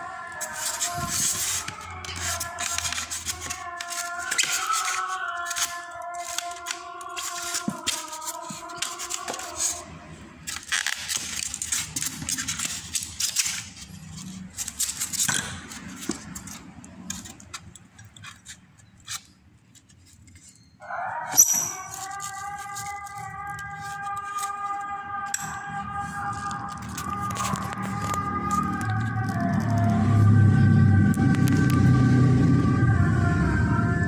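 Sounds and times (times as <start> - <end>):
packaging rustling and scraping: 0.2 - 30.4.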